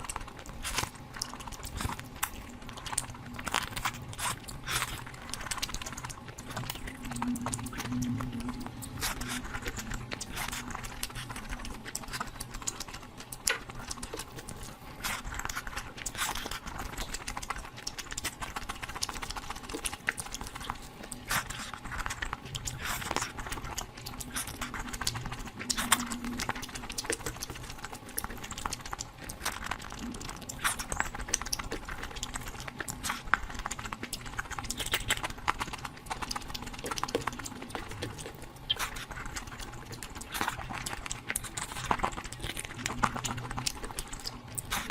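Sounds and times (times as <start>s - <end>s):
person chewing and smacking: 0.0s - 44.9s.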